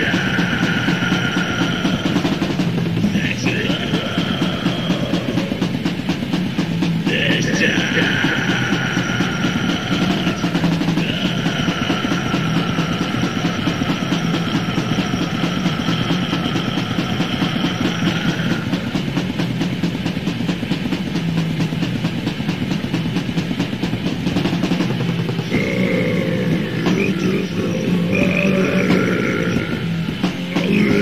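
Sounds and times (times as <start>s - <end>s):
distorted metal guitars: 0.0s - 31.0s
fast dense drumming: 0.0s - 31.0s.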